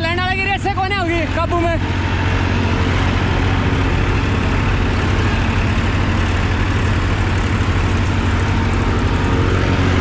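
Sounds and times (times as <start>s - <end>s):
other tractor engines: 0.0s - 10.0s
tractor diesel engine running: 0.0s - 10.0s.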